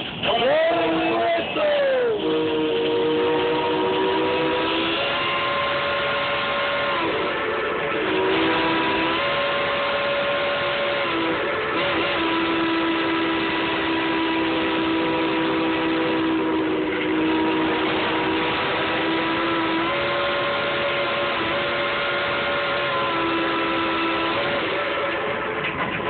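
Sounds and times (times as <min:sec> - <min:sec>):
steam locomotive chime whistle: 0:00.0 - 0:26.0.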